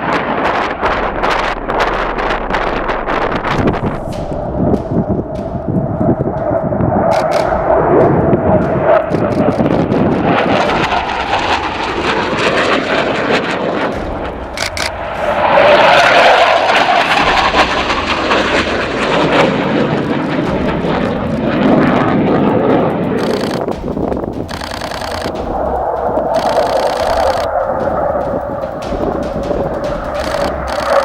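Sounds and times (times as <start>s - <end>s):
jet roaring past: 0.0s - 31.0s.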